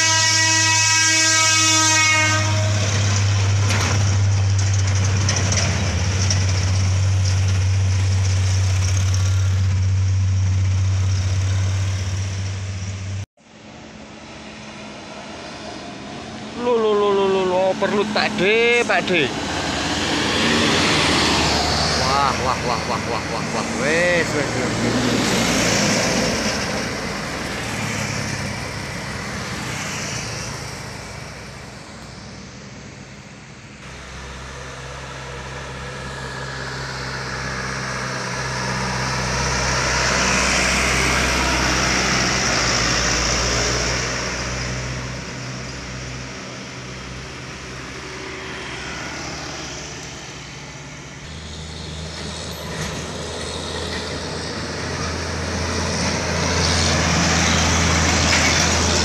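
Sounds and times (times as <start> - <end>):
heavy trucks and bus passing: 0.0 - 59.0.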